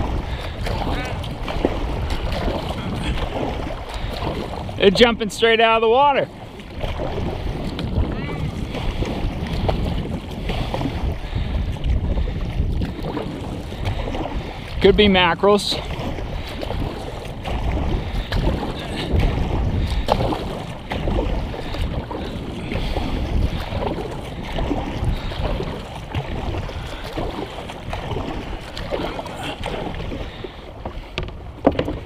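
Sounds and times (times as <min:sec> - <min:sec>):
paddle dipping through water: 0:00.0 - 0:32.0
water washing along hull: 0:00.0 - 0:32.0
wind buffeting microphone: 0:00.0 - 0:32.0.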